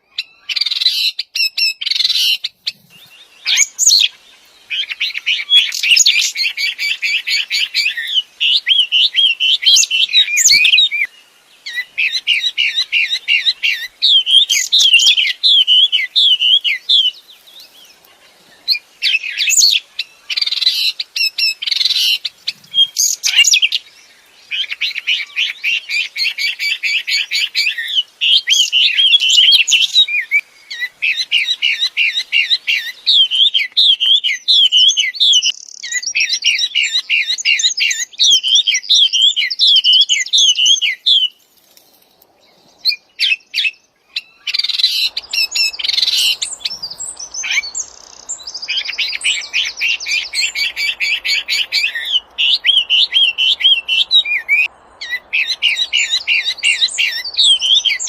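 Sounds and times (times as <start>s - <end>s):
songbird chirps and trills: 0.0s - 58.0s
faint steady hiss: 2.2s - 58.0s.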